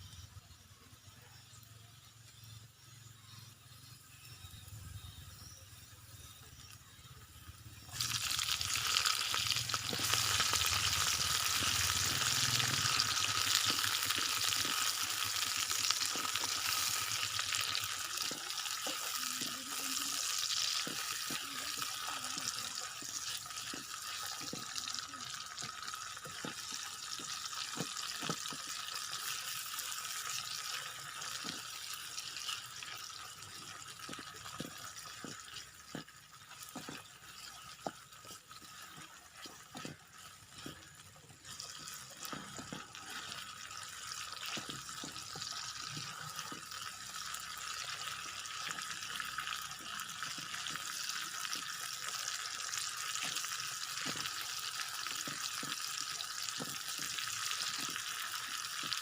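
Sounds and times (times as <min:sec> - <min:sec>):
food sizzling in a pan: 0:00.0 - 0:59.0.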